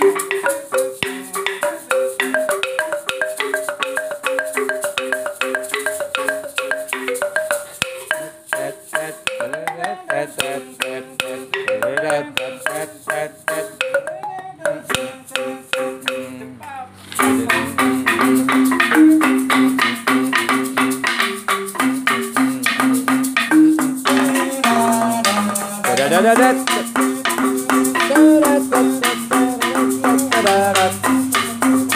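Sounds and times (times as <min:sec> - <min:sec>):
drum strokes: 0:00.0 - 0:31.9
gamelan music: 0:00.0 - 0:31.9.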